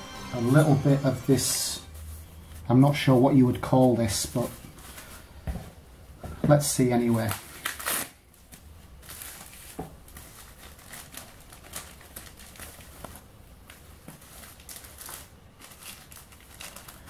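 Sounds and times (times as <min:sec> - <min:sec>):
packing sheet rustling and crinkling: 0:01.6 - 0:17.0.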